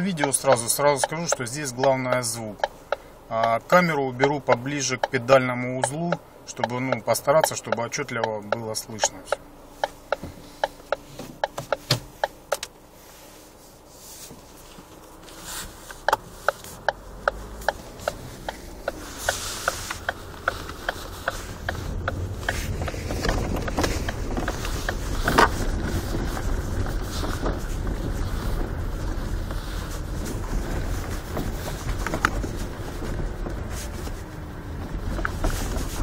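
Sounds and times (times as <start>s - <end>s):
regular ticking: 0.0s - 12.8s, 15.7s - 33.6s
road rumble inside car: 0.0s - 36.0s.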